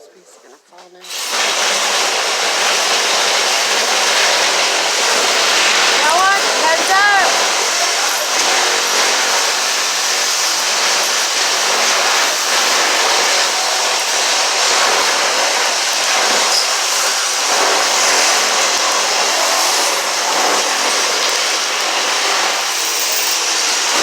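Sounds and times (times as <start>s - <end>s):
power tool running: 1.0s - 24.0s.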